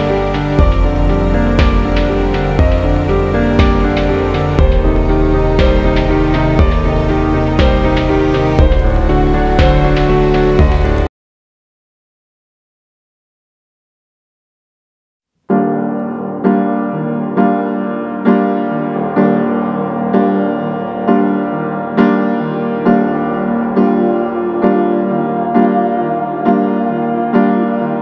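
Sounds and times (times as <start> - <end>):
slow piano chords: 0.0 - 11.1, 15.5 - 28.0.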